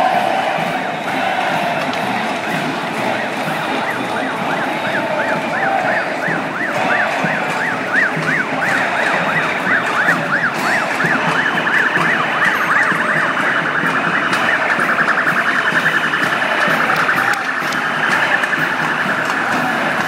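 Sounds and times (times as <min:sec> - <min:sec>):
crowd noise: 0:00.0 - 0:20.0
police siren wailing: 0:00.0 - 0:20.0
street traffic: 0:00.0 - 0:20.0.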